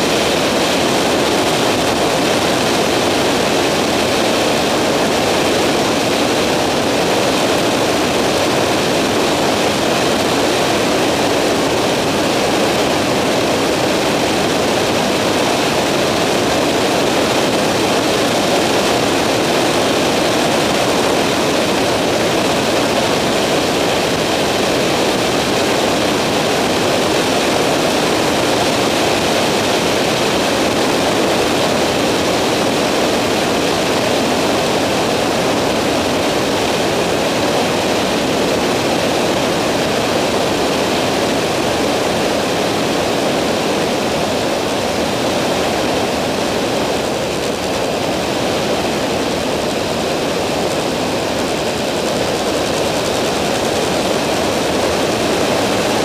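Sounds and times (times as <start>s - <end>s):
microlight engine and propeller: 0.0s - 56.0s.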